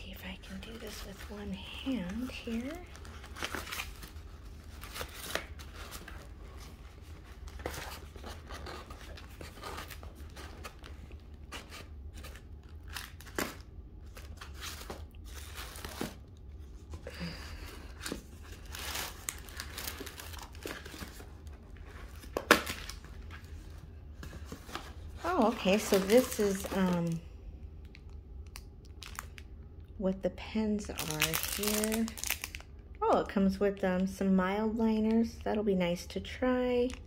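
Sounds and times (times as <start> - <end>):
plastic wrap and paper crinkling: 0.2 - 29.5, 30.8 - 32.7.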